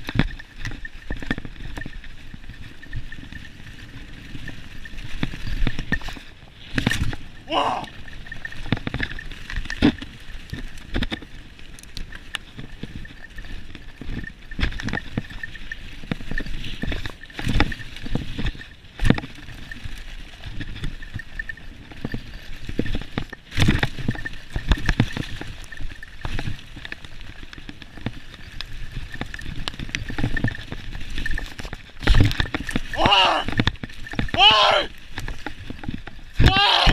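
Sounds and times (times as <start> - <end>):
bike rattling over bumps: 0.0 - 36.9
bike wheels rolling on dirt: 0.0 - 36.9.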